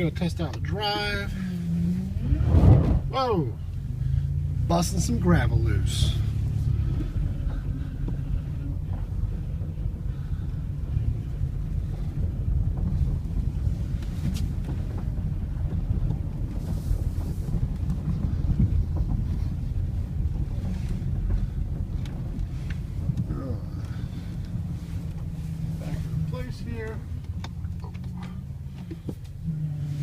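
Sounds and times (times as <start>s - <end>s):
van engine rumbling under load: 0.0s - 30.0s.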